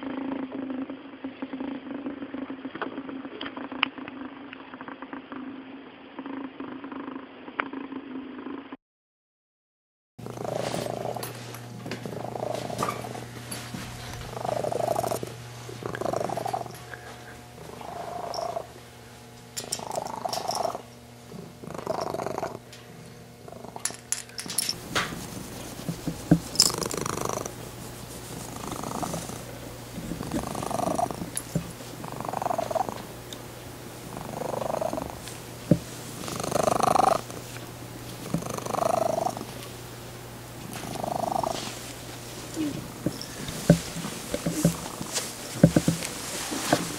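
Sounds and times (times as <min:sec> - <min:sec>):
cat purring high-pitched: 0:00.0 - 0:08.8, 0:10.2 - 0:11.3, 0:12.0 - 0:13.2, 0:14.3 - 0:18.8, 0:19.6 - 0:22.7, 0:23.4 - 0:23.9, 0:25.2 - 0:33.1, 0:34.0 - 0:37.6, 0:38.2 - 0:39.6, 0:40.7 - 0:46.7.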